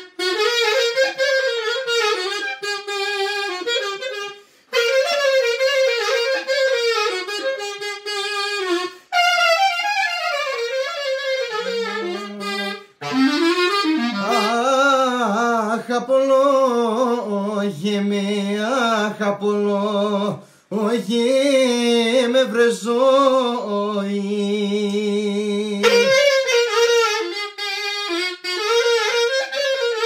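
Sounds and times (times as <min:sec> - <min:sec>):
clarinet melody: 0:00.0 - 0:20.4, 0:25.2 - 0:30.0.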